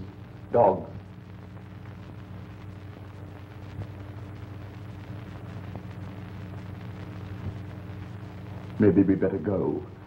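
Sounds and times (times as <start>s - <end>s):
old film soundtrack hum and hiss: 0.0s - 10.0s.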